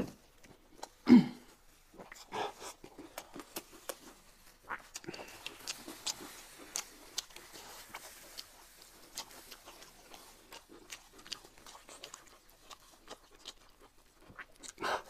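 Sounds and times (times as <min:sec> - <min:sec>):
wet chewing and lip-smacking: 0:00.4 - 0:01.0, 0:01.9 - 0:15.0.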